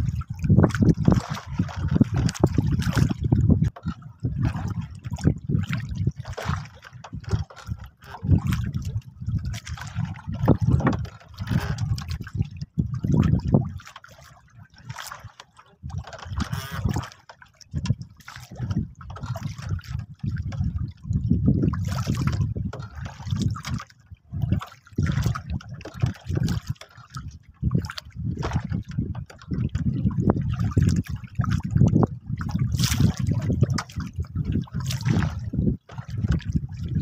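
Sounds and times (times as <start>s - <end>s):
wind gusts on microphone: 0.0s - 6.6s, 8.2s - 13.8s, 16.3s - 17.1s, 17.8s - 23.8s, 24.4s - 26.7s, 27.3s - 37.0s
water sloshing around boat: 0.0s - 37.0s.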